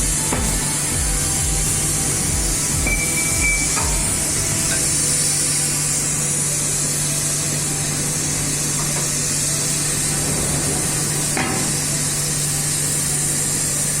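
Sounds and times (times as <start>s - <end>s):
industrial machinery hiss: 0.0s - 14.0s
low machinery hum: 0.0s - 14.0s.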